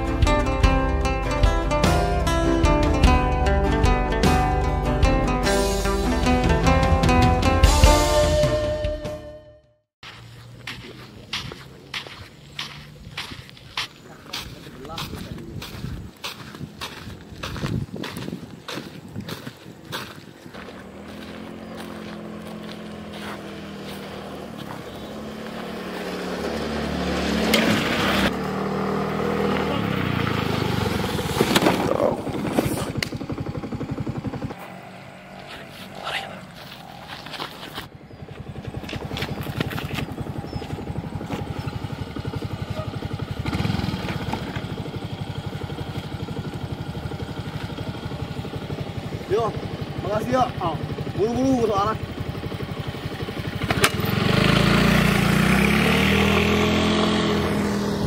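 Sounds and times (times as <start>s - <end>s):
motor scooter engine running: 10.1s - 58.0s.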